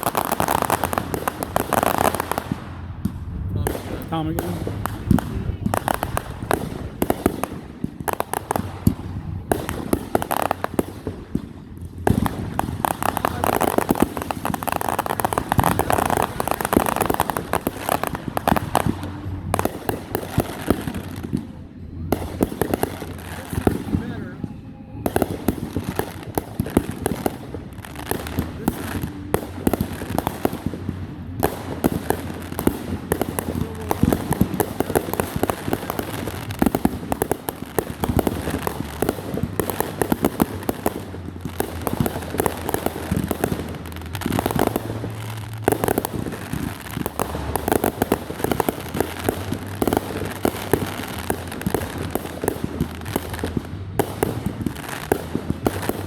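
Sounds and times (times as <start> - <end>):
fireworks cracking and banging: 0.0 - 56.0.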